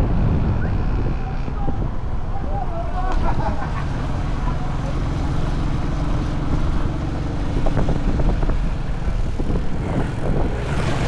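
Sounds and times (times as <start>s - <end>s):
engine droning: 0.0s - 11.0s
outdoor noise: 0.0s - 11.0s.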